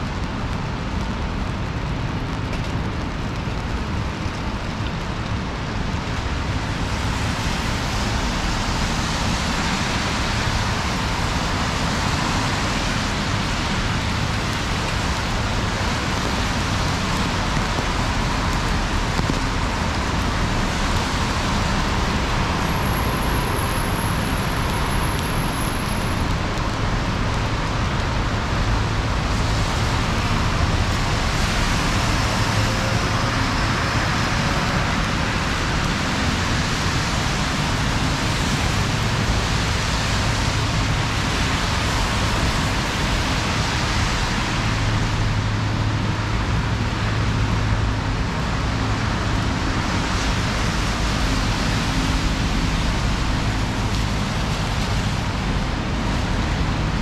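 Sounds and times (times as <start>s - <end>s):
rain: 0.0s - 57.0s
car traffic: 5.0s - 57.0s.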